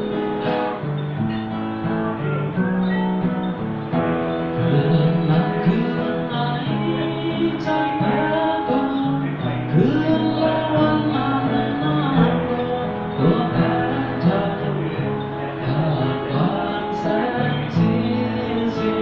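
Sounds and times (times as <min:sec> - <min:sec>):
acoustic guitar strummed and picked: 0:00.0 - 0:19.0.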